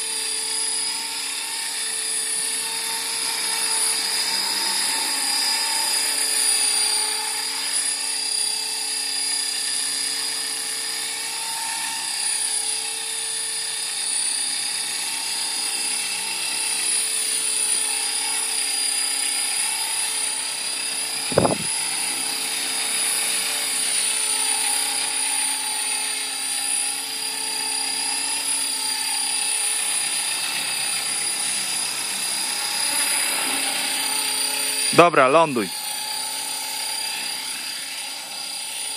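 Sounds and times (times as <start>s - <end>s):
rc helicopter rotor whine: 0.0s - 38.9s.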